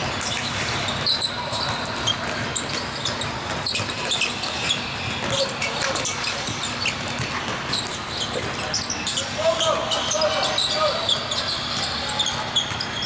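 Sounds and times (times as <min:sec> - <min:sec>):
background murmur: 0:00.0 - 0:13.0
ball bouncing on court: 0:00.0 - 0:13.0
sneaker squeaks: 0:00.0 - 0:13.0.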